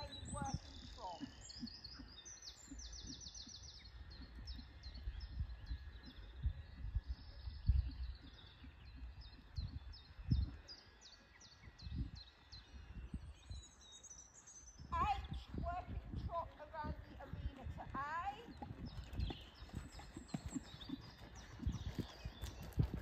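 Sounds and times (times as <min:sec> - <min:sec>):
small bird singing: 0:00.0 - 0:23.0.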